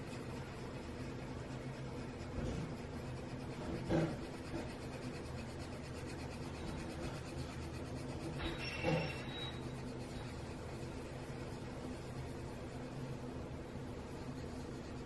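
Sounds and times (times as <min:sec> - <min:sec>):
low steady hum: 0:00.0 - 0:15.0
pencil scribbling on paper: 0:00.0 - 0:15.0.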